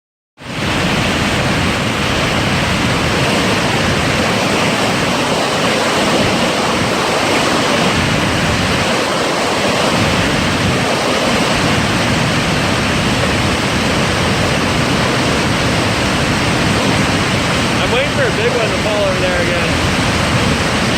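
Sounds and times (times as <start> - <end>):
water rushing over spillway: 0.4 - 20.9.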